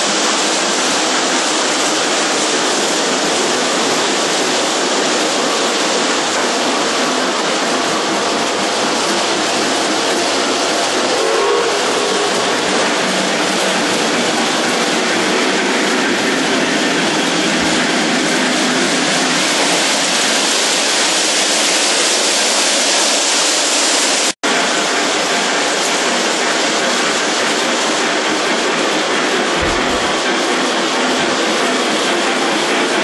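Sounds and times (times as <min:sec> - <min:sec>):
model train rolling on rails: 0:00.0 - 0:33.0.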